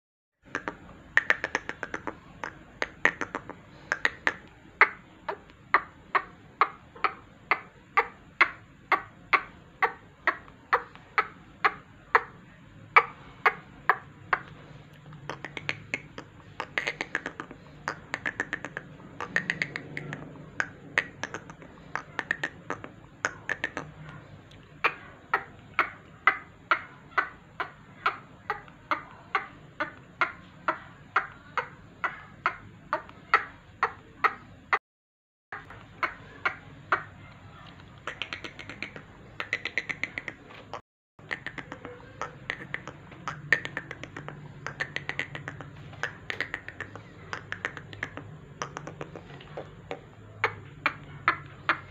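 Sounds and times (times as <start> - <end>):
rhythmic bird call clicking: 0.4 - 34.8, 35.6 - 51.9.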